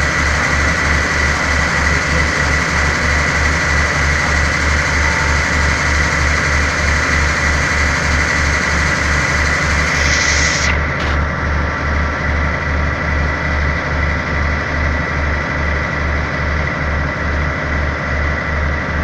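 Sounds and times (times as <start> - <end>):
high whine: 0.0 - 18.6
diesel train engine idling: 0.0 - 19.0.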